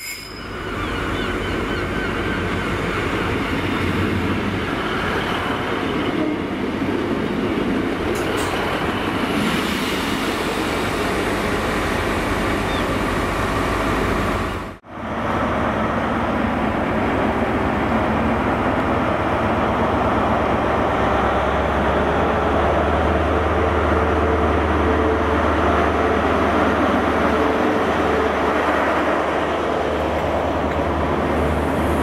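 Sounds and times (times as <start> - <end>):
diesel locomotive approaching: 0.0 - 32.0
diesel railcar passing: 0.0 - 32.0.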